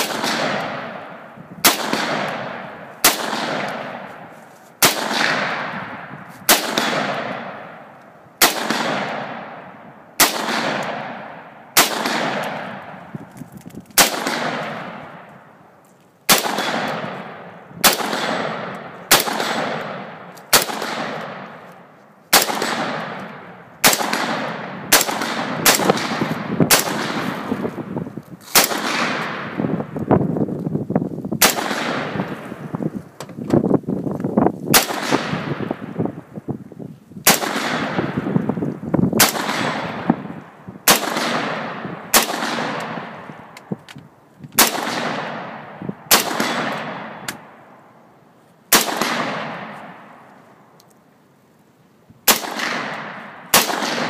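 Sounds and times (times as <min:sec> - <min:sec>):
rifle shots with echo: 0:00.0 - 0:13.3, 0:13.9 - 0:15.6, 0:16.3 - 0:30.0, 0:31.4 - 0:33.1, 0:34.7 - 0:36.2, 0:37.2 - 0:38.5, 0:39.2 - 0:43.8, 0:44.6 - 0:47.9, 0:48.7 - 0:50.7, 0:52.2 - 0:54.0.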